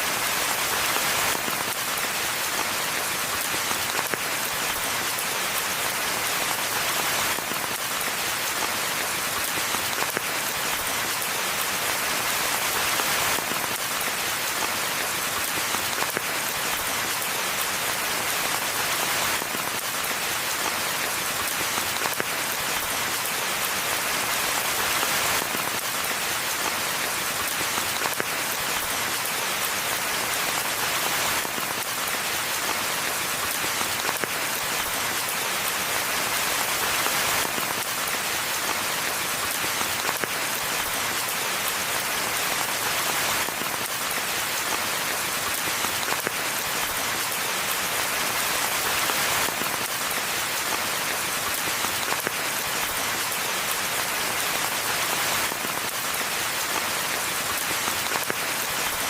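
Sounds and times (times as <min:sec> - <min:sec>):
rain falling in a forest: 0:00.0 - 0:59.0.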